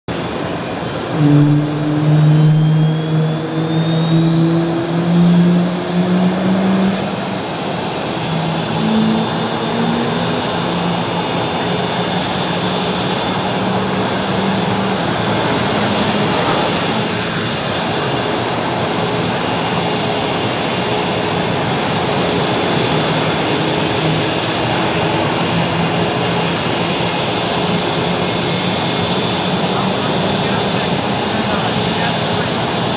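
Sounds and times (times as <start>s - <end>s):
jet engines whining: 0.1s - 32.9s.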